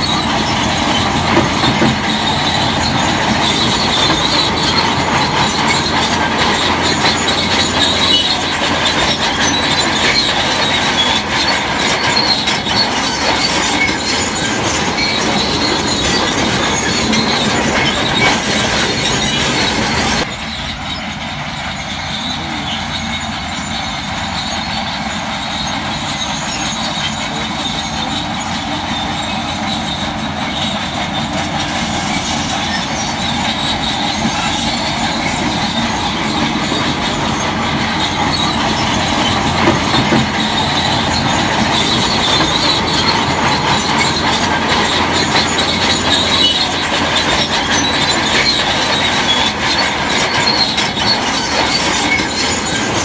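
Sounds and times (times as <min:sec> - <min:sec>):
diesel engine running: 0:00.0 - 0:53.0
steel crawler tracks clanking: 0:00.0 - 0:53.0.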